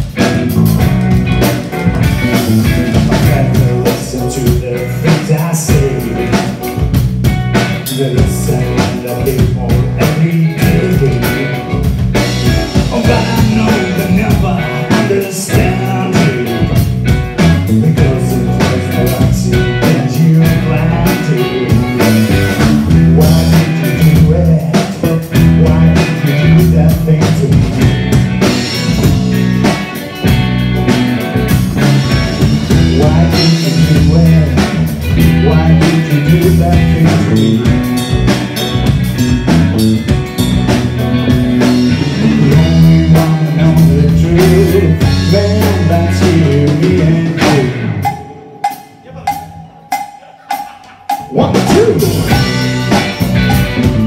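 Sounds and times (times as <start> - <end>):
electric guitar: 0.0 - 50.0, 51.2 - 54.0
bass guitar: 0.0 - 54.0
drum kit: 0.0 - 54.0
person singing: 2.4 - 6.8, 7.7 - 28.0, 32.0 - 39.6, 42.0 - 54.0.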